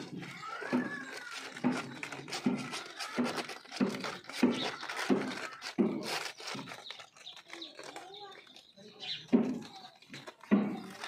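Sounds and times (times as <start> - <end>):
puppies suckling and snuffling: 0.0 - 11.0.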